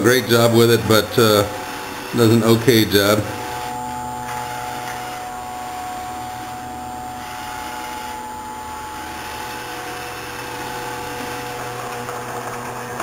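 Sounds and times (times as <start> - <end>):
robot vacuum cleaner running: 0.0 - 13.0.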